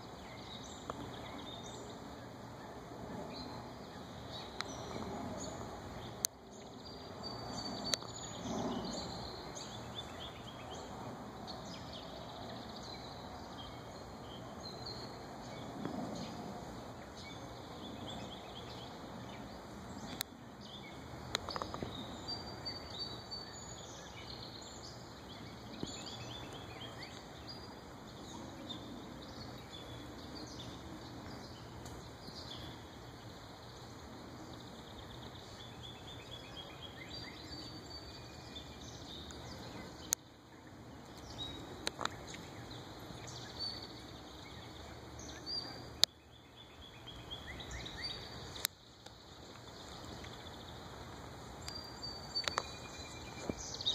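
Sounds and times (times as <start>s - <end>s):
outdoor background hiss: 0.0s - 53.9s
small songbirds chirping: 0.0s - 53.9s.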